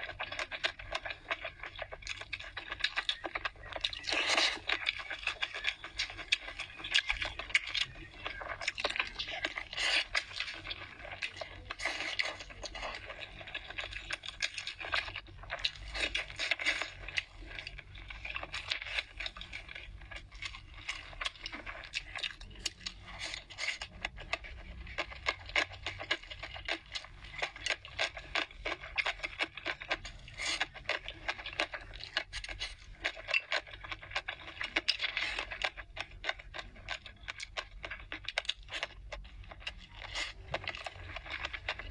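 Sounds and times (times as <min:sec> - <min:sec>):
wet chewing sounds: 0:00.0 - 0:41.9.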